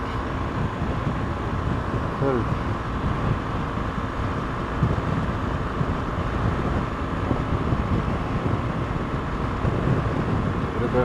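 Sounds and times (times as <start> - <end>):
motorcycle engine drone: 0.0 - 11.0
tyres cruising on road: 0.0 - 11.0
wind buffeting microphone: 0.0 - 11.0.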